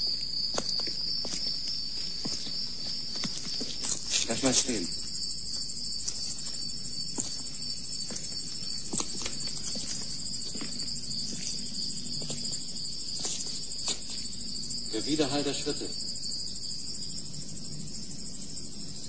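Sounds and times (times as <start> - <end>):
high-pitched insect chirping: 0.0 - 19.0.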